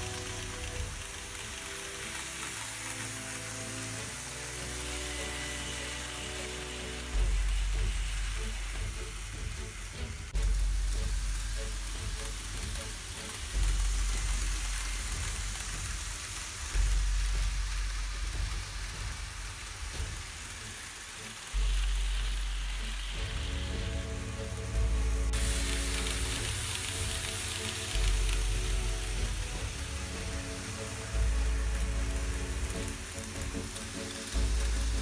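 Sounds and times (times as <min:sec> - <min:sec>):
model train running on track: 0:00.0 - 0:35.0
music: 0:00.0 - 0:35.0.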